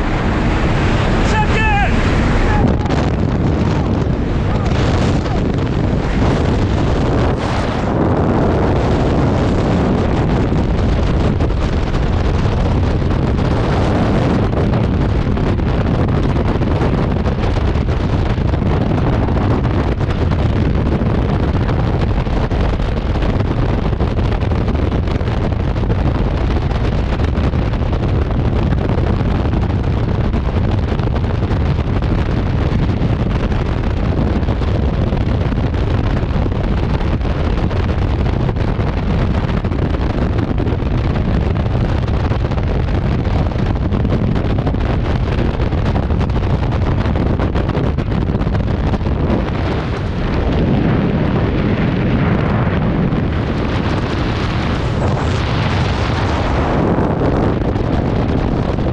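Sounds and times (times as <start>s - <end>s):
wind blasting across microphone: 0.0s - 58.9s.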